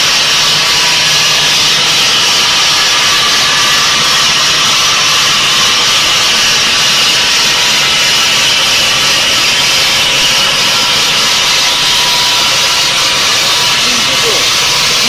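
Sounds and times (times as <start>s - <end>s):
circular saw blade grinding stone: 0.0s - 15.0s.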